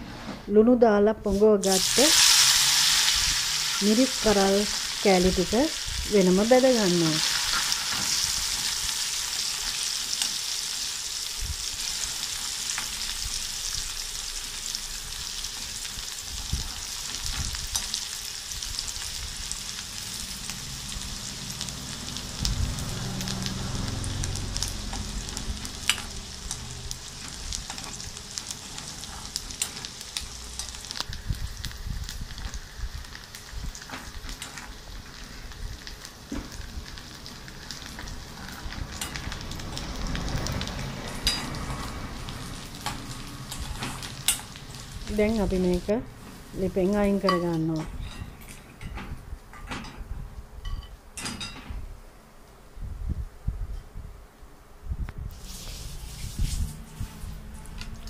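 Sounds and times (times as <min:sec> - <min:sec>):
chili frying in oil: 0:01.2 - 0:51.6, 0:55.3 - 0:58.0.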